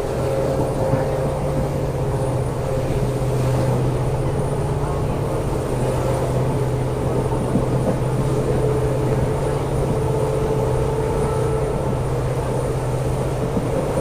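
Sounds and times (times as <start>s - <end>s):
diesel locomotive engine droning: 0.0s - 14.0s
train running noise: 0.0s - 14.0s.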